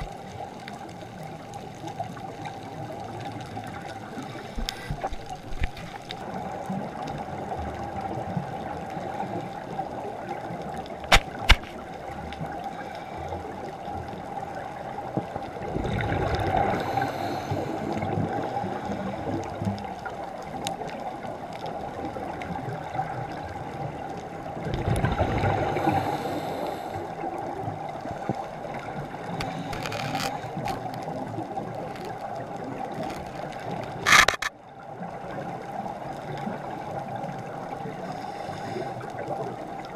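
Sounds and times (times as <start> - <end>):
regulator bubbles gurgling underwater: 0.0 - 39.9.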